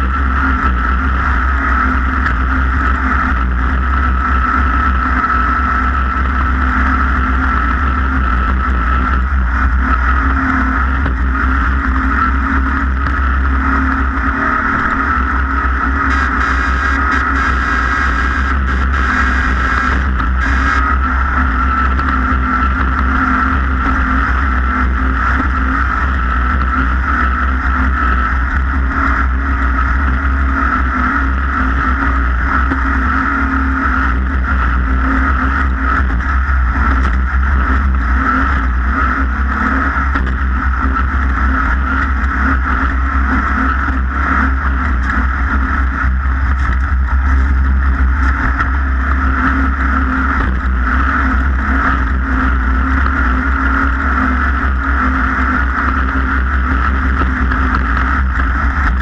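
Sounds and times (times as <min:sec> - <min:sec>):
race vehicle engine running hard: 0:00.0 - 0:59.0.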